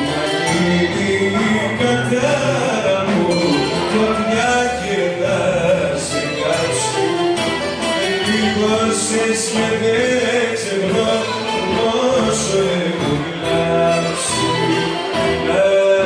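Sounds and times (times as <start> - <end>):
instrumental accompaniment: 0.0 - 16.0
person singing folk song: 0.0 - 16.0.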